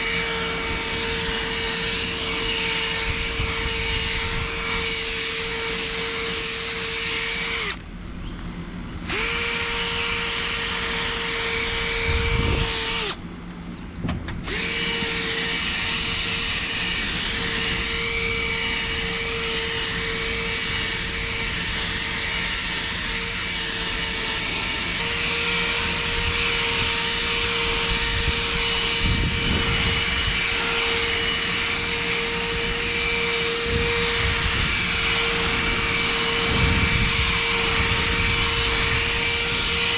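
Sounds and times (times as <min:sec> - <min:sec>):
power tool whining: 0:00.0 - 0:39.9.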